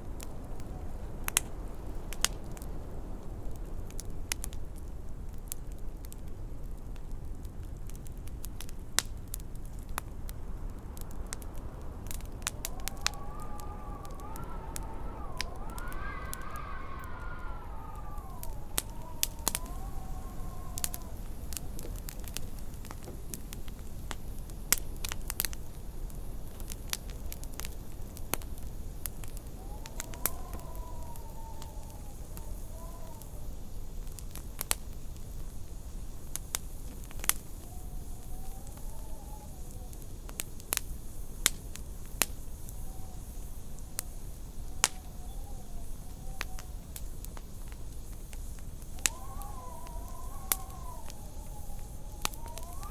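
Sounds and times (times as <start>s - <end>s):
wind rumbling and howling: 0.0s - 52.9s
wood fire crackling: 0.0s - 52.9s.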